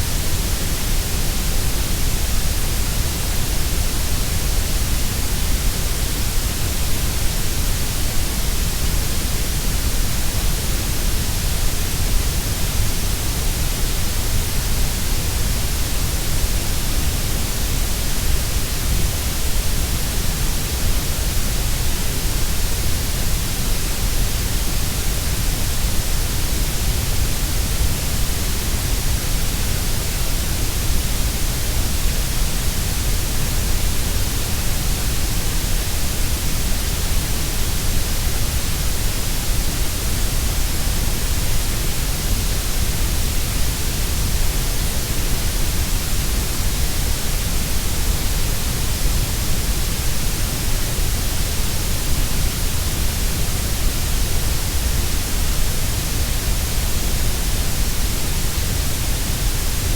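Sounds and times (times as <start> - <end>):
steady grey noise hiss: 0.0 - 59.9.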